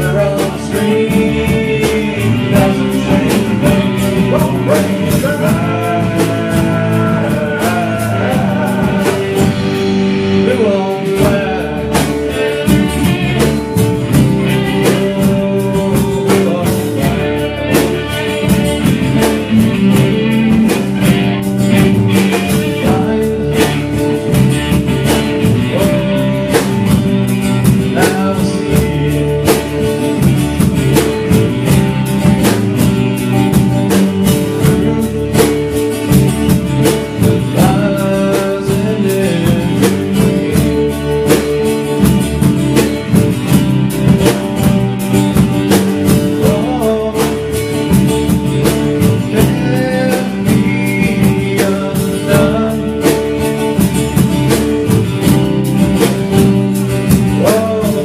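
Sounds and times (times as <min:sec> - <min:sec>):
person singing: 0:00.0 - 0:31.8, 0:32.4 - 0:43.6, 0:45.3 - 0:53.9, 0:56.0 - 0:58.0
drum kit: 0:00.0 - 0:58.0
electric and acoustic guitars: 0:00.0 - 0:58.0.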